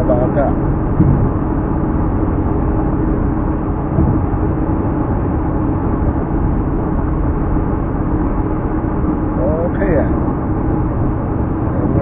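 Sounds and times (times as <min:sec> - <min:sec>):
car cabin road rumble: 0:00.0 - 0:12.0
faint constant hum: 0:00.0 - 0:12.0.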